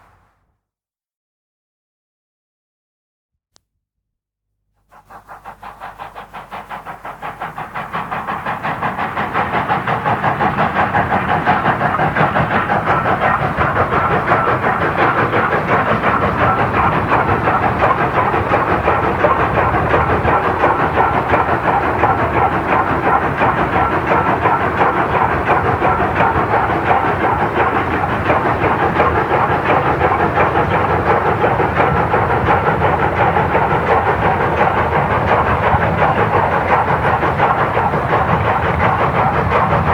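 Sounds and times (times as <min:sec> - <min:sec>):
steam hiss: 0:04.8 - 0:39.9
steam locomotive exhaust beating: 0:04.8 - 0:39.9.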